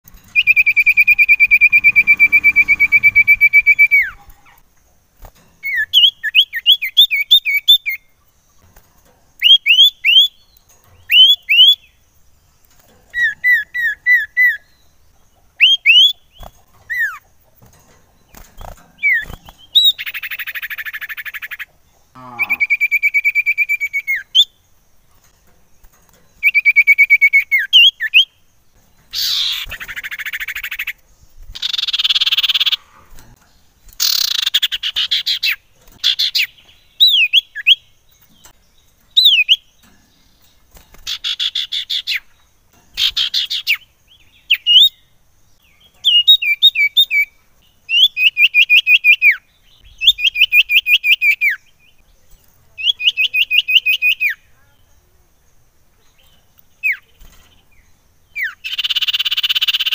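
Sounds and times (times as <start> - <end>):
bird singing trills and whistles: 0.1 - 4.6, 5.6 - 8.3, 9.4 - 12.0, 12.6 - 17.3, 18.3 - 24.6, 25.8 - 33.2, 33.8 - 55.0, 56.0 - 59.9.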